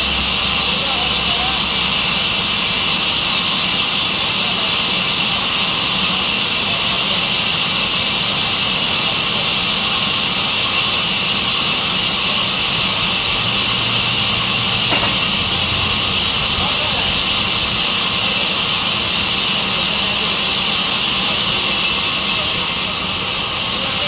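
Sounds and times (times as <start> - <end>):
sawmill saw hissing: 0.0 - 24.0.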